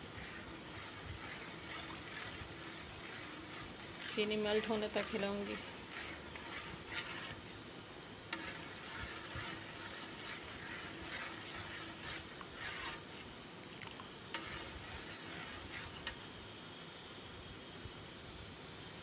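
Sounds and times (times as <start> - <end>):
spoon stirring in pot: 0.0 - 16.3.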